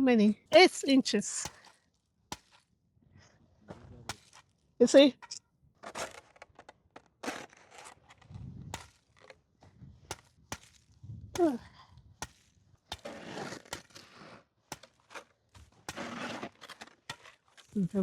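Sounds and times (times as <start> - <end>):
snow clearing knocks and scrapes: 0.3 - 2.6, 3.8 - 11.6, 12.2 - 18.0.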